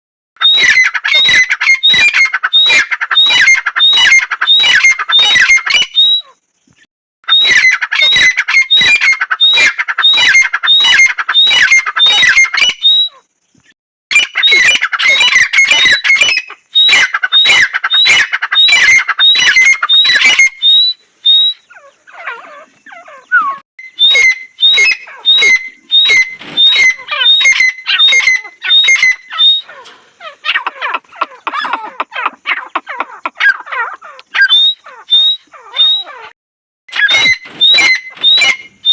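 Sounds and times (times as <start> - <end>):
francolin calling shrill notes: 0.4 - 6.4, 7.3 - 13.2, 14.1 - 31.0, 31.6 - 38.9.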